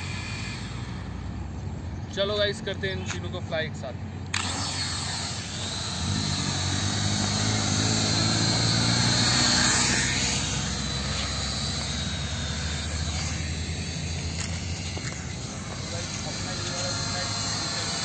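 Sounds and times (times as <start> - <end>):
drones whining in flight: 0.0 - 2.9, 3.9 - 18.0.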